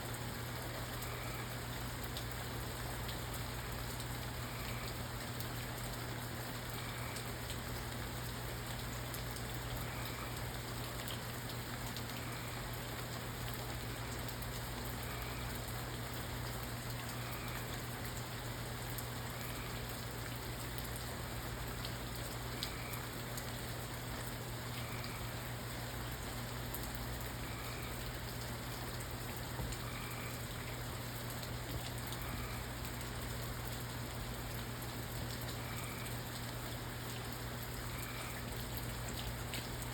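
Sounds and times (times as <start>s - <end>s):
low steady hum: 0.0s - 39.9s
rain falling: 0.0s - 39.9s
sharp raindrop ticks: 0.6s - 39.9s.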